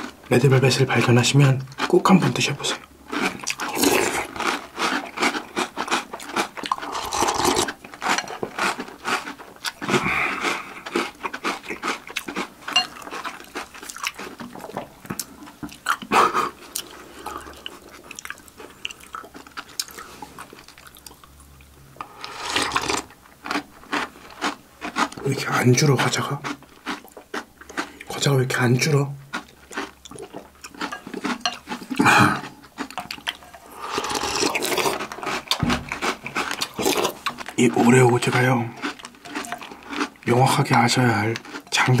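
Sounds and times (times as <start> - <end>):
crunching cereal: 0.0 - 14.6, 22.3 - 42.0.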